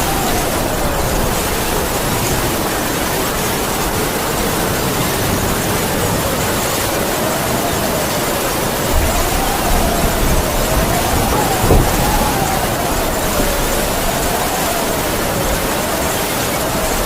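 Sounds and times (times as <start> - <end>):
heavy rain pouring: 0.0 - 17.0
wind howling: 0.0 - 17.0.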